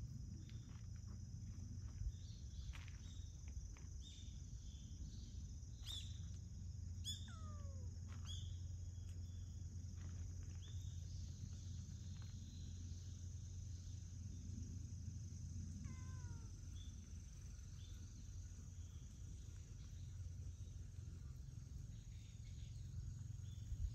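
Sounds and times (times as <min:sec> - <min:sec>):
high-pitched insect drone: 0:00.0 - 0:23.9.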